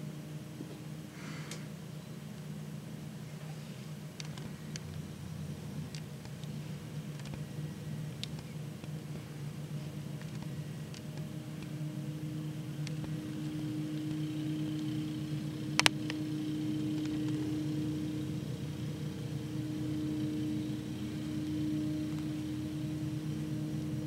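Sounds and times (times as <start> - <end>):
riding lawn mower engine running: 0.0 - 24.0.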